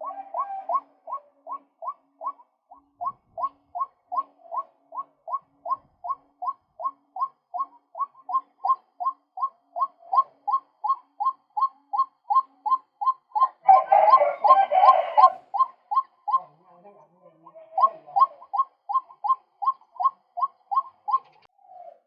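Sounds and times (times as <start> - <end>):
waterhen calling kwak notes: 0.0 - 16.7, 17.3 - 21.5.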